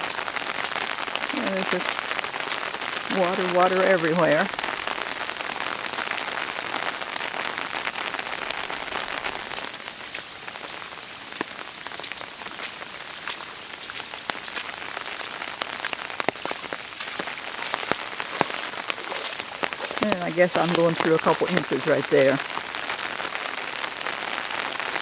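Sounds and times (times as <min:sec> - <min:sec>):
rain falling on an umbrella: 0:00.0 - 0:25.0.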